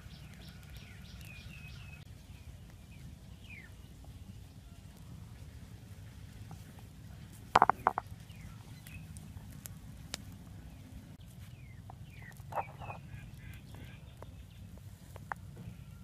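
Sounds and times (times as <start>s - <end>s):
grass fire crackling: 0.0s - 4.0s, 4.6s - 10.6s, 11.2s - 15.3s.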